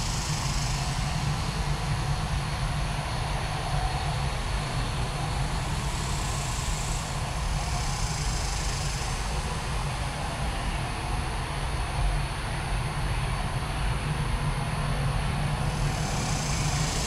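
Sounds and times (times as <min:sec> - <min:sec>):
jet engine rumbling with hiss: 0:00.0 - 0:17.0.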